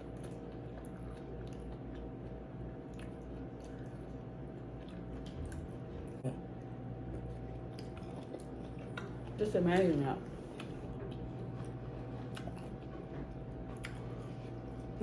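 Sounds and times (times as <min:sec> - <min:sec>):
steady low hum: 0:00.0 - 0:15.0
wet chewing mouth sounds: 0:00.0 - 0:15.0.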